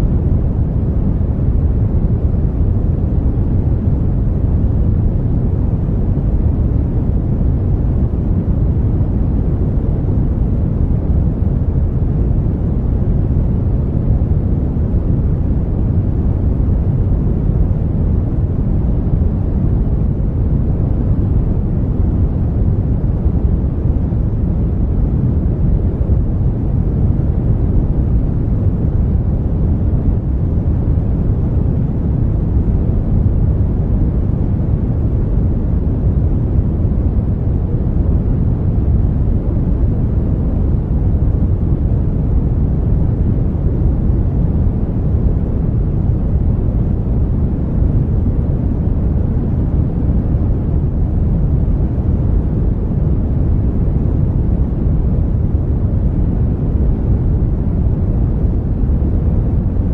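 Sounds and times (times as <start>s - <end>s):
brown noise rumbling hiss: 0.0s - 59.9s.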